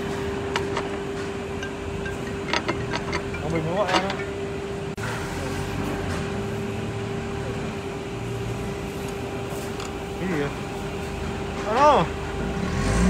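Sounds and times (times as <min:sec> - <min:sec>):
electric machinery humming: 0:00.0 - 0:12.8.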